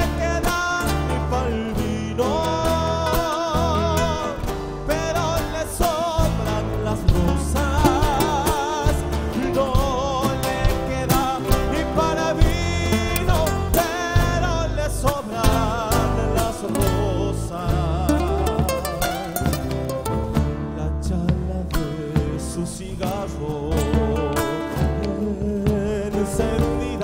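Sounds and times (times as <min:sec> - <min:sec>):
electric bass line: 0:00.0 - 0:27.0
man singing with vibrato: 0:00.0 - 0:27.0
strummed acoustic guitar: 0:00.0 - 0:27.0.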